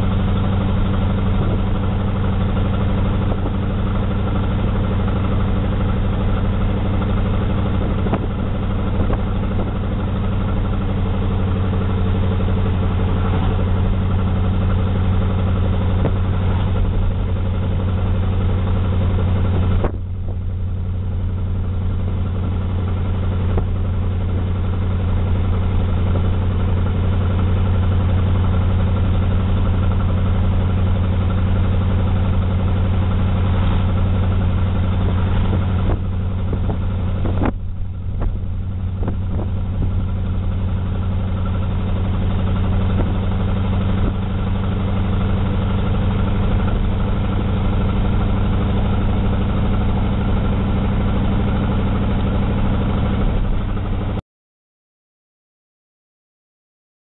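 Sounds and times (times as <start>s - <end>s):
car engine humming: 0.0s - 54.2s
road noise: 0.0s - 54.2s.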